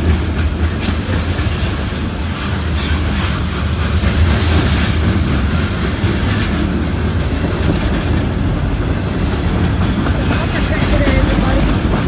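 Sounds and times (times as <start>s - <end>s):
freight train wheels rumbling on rail: 0.0s - 12.0s
wheels clicking over rail joints: 0.0s - 12.0s.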